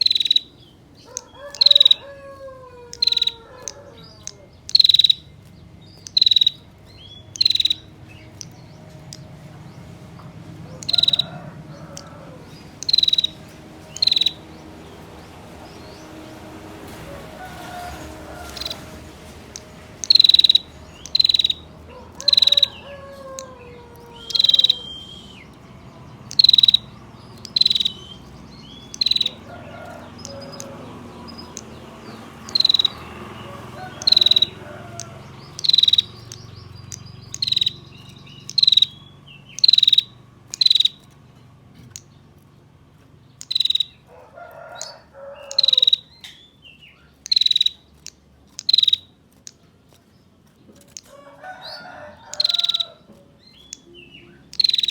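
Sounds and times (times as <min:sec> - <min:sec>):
bird sharp dry calls: 0:00.0 - 0:42.3, 0:43.2 - 0:54.9.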